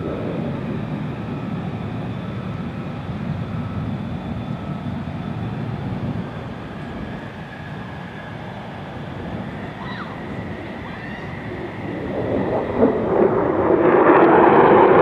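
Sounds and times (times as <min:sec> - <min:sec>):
distant jet engine rumble: 0:00.0 - 0:15.0.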